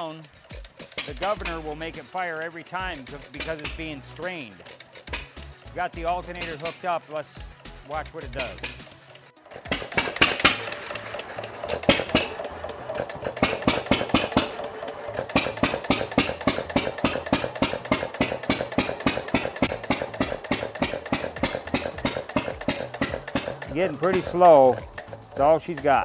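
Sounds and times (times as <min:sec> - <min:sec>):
engine firing beats: 0:00.0 - 0:26.0.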